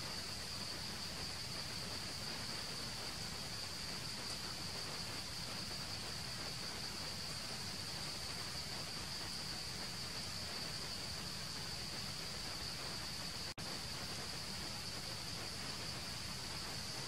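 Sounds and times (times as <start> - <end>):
insects droning: 0.0 - 17.0
soft hiss: 0.0 - 17.0.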